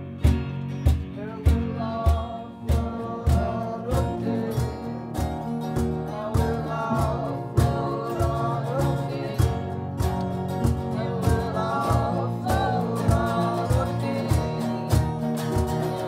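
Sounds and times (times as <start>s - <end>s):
steady percussive beat: 0.0s - 16.0s
strummed acoustic guitar: 0.0s - 16.0s
person singing: 1.1s - 16.0s.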